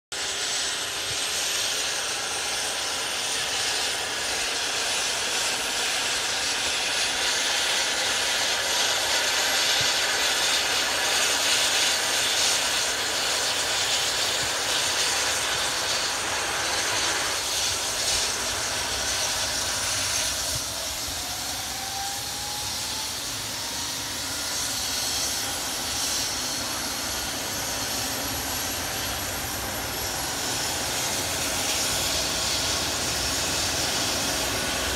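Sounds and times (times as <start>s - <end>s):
helicopter turbine engines running: 0.1s - 34.9s.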